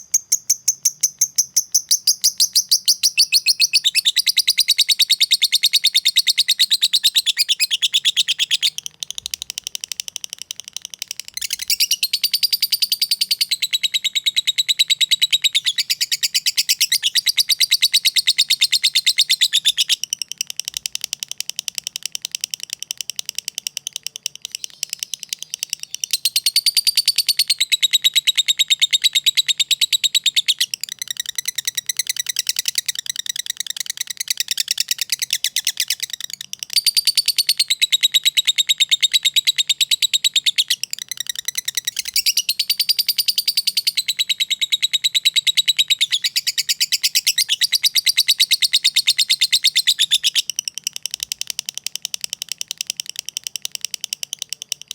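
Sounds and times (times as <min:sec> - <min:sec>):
lovebird fast ticking chatter: 0:00.0 - 0:54.9
lovebird high chattering song: 0:00.0 - 0:54.9.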